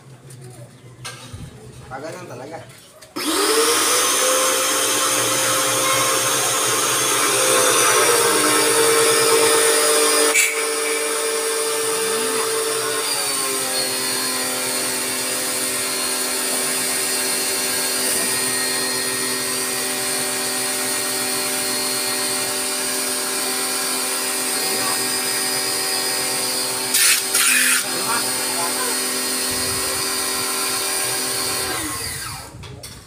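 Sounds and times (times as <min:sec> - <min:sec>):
pressure washer whining: 0:03.2 - 0:32.6.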